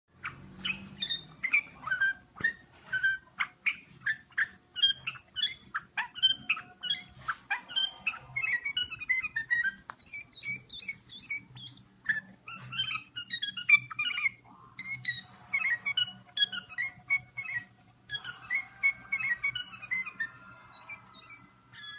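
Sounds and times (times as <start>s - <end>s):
songbird singing: 0.2s - 21.9s.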